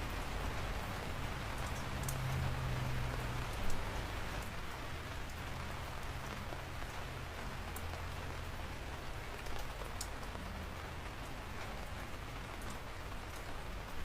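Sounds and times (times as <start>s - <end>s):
steady rain hiss: 0.0s - 14.0s
raindrop ticks: 1.0s - 14.0s.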